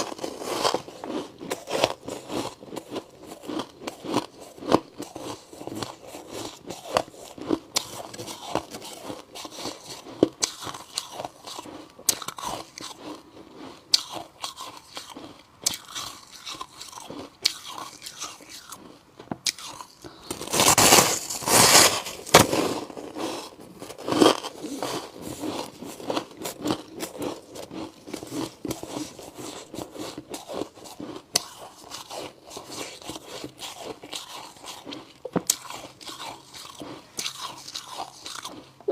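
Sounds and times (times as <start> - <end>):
ice crunching in mouth: 0.0 - 38.9.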